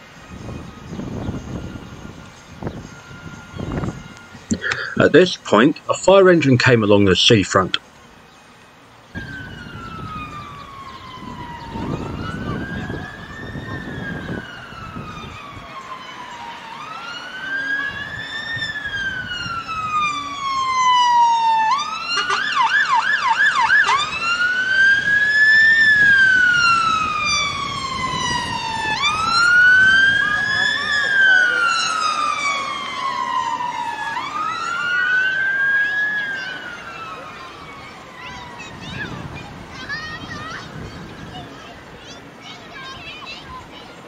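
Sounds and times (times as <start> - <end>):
fire engine siren wailing: 0.0 - 5.8, 9.1 - 41.6
siren fast yelp: 0.3 - 5.2, 9.2 - 41.5.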